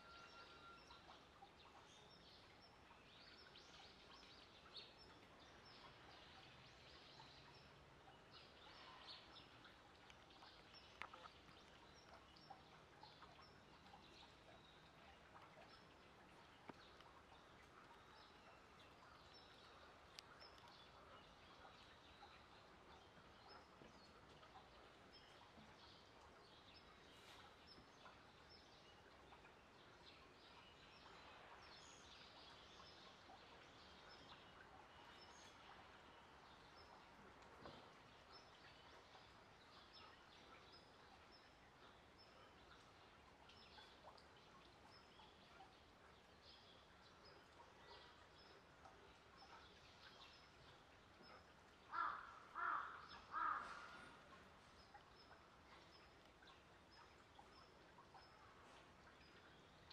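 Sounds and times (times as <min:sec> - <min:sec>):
small birds chirping softly: 0:00.0 - 0:59.9.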